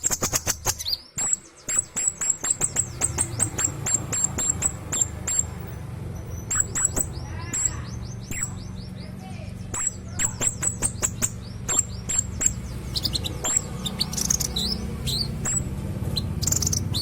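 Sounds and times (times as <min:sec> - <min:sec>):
kingfisher chattering calls: 0:00.1 - 0:05.6, 0:06.2 - 0:17.0.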